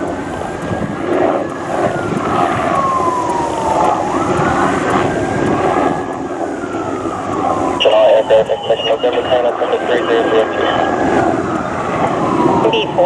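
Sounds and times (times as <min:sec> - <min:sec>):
helicopter flying by: 0:00.0 - 0:13.0
wailing siren: 0:00.0 - 0:13.0.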